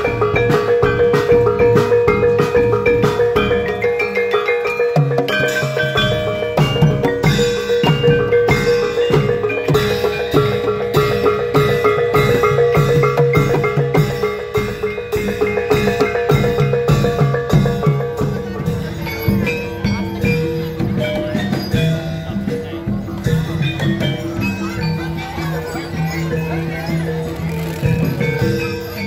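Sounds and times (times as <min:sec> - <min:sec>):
barrel drum beaten by hand: 0:00.0 - 0:28.8
gamelan ensemble playing: 0:00.0 - 0:29.0.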